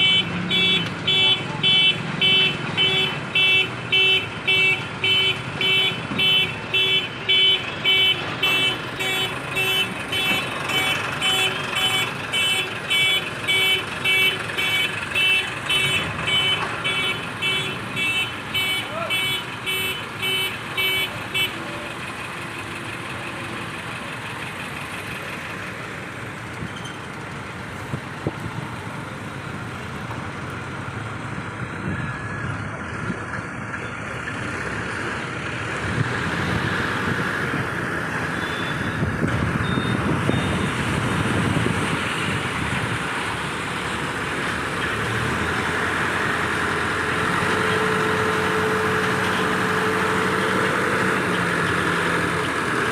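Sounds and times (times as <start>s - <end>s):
heavy crane engine running: 0.0s - 52.9s.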